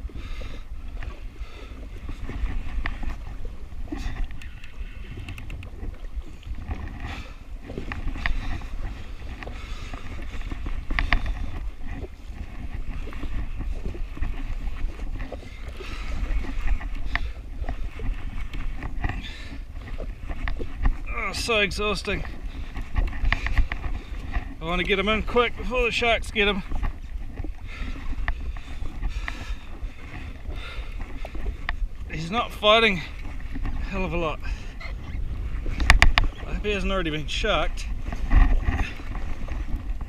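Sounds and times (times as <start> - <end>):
waves slapping against hull: 0.0 - 40.0
wind buffeting microphone: 0.0 - 40.0.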